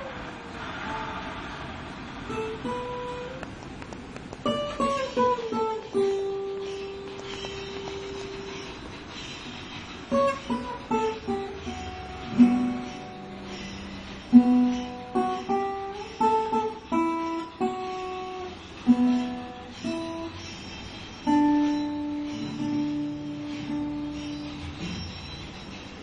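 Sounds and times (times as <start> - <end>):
solo guitar melody: 0.0 - 26.0.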